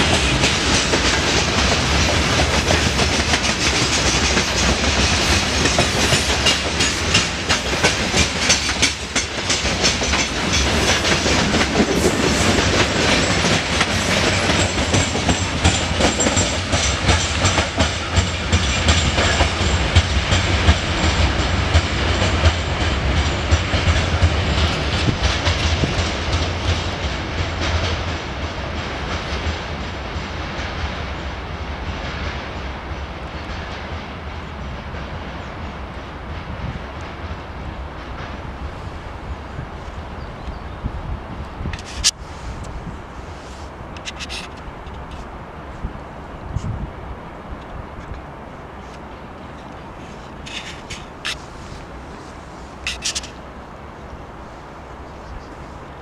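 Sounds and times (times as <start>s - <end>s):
train wheels clattering on rails: 0.0s - 40.6s, 43.9s - 45.3s, 47.6s - 53.5s.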